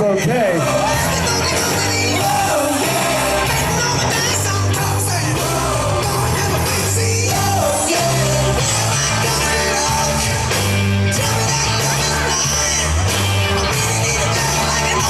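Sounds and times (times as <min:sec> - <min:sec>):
rock and roll song over loudspeakers: 0:00.0 - 0:15.0.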